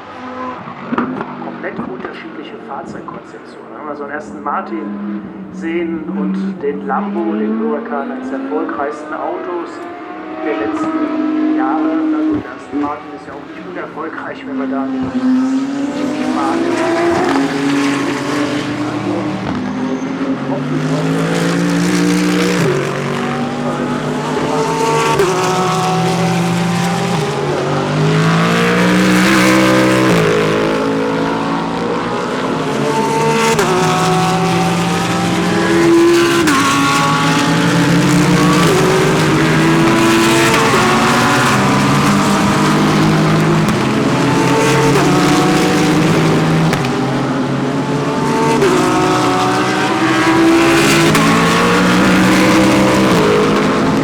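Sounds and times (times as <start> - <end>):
race car engines downshifting and accelerating: 0.0 - 54.0.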